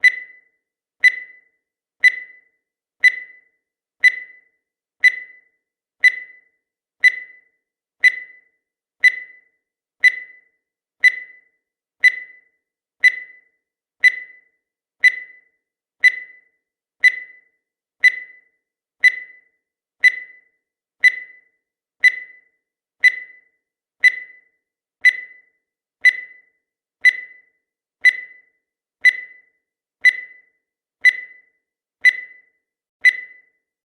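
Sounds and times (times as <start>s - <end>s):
short high timer beeps: 0.0s - 33.6s.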